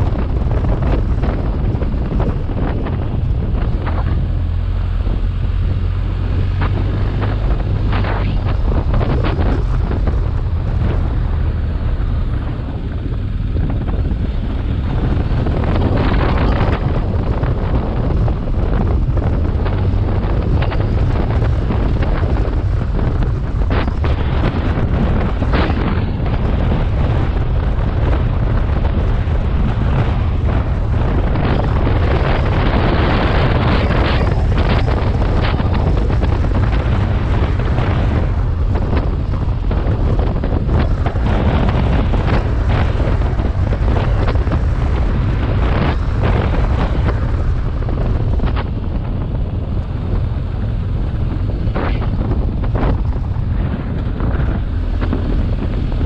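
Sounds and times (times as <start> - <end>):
motorcycle engine: 0.0 - 56.0
rush of riding: 0.0 - 56.0
wind buffeting microphone: 0.0 - 56.0.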